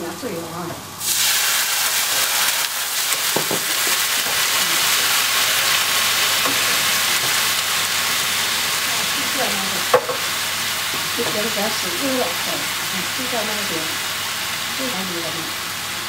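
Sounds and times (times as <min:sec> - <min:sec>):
garlic sizzling in a frying pan: 0:00.1 - 0:16.0.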